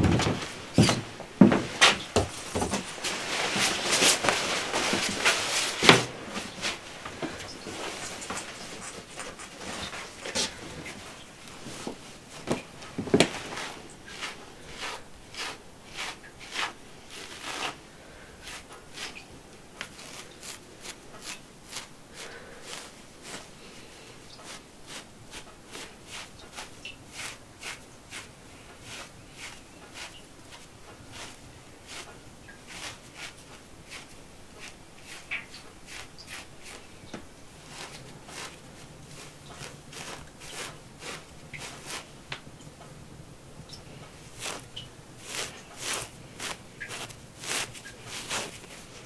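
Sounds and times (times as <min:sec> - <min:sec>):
wool tearing and rustling: 0:01.7 - 0:17.8, 0:18.4 - 0:42.2, 0:43.9 - 0:49.0.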